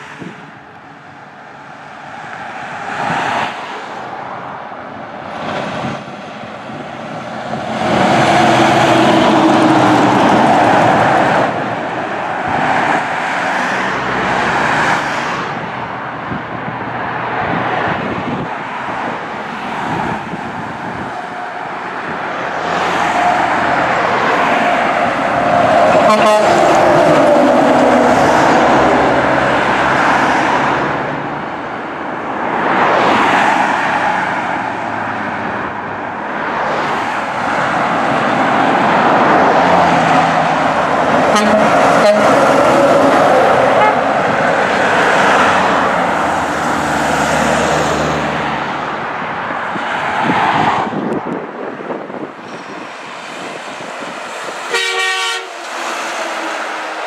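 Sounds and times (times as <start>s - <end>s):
cars passing on highway: 0.0s - 57.0s
dump truck engine passing: 0.3s - 57.0s.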